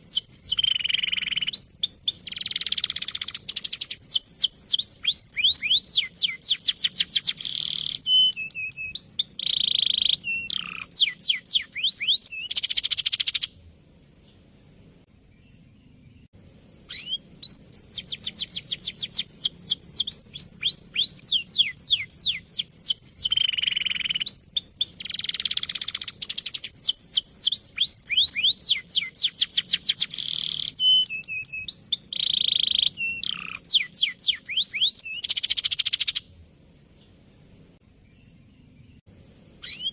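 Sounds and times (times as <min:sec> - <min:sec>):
canary singing: 0:00.0 - 0:14.4, 0:15.5 - 0:37.1, 0:39.5 - 0:39.9.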